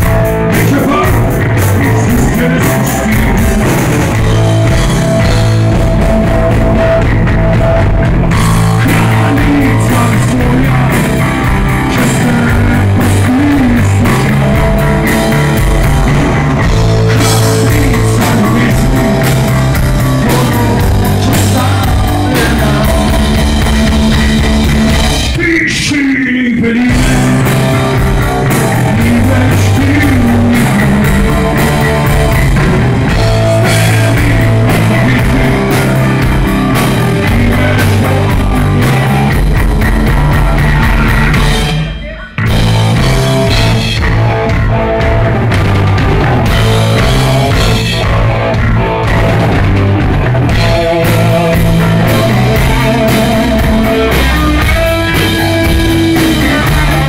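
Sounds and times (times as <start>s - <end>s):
man singing: 0.0s - 7.0s, 8.3s - 43.9s, 50.5s - 57.0s
bass guitar: 0.0s - 57.0s
drum kit: 0.0s - 57.0s
electric guitar: 0.0s - 57.0s.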